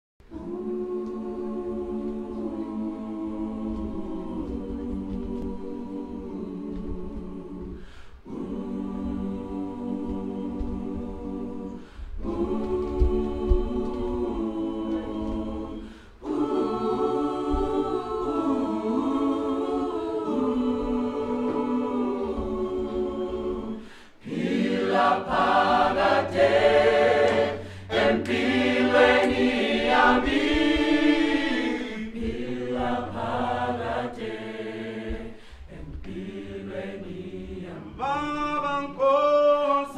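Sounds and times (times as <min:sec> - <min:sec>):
mixed choir singing a cappella: 0:00.2 - 0:39.9.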